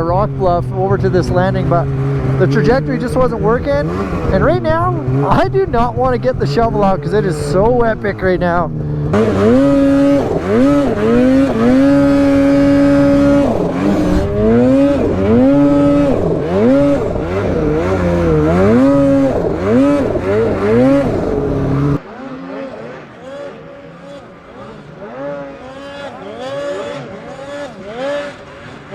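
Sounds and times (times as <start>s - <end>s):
snowmobile engine revving: 0.0s - 28.9s.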